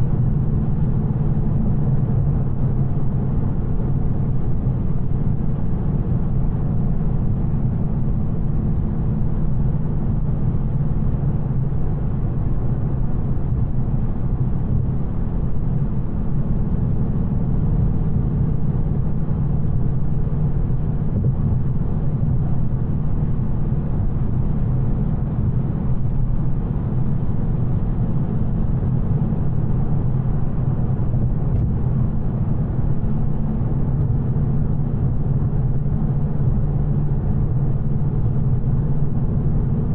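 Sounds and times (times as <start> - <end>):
car engine cruising drone: 0.0 - 39.9
road noise: 0.0 - 39.9.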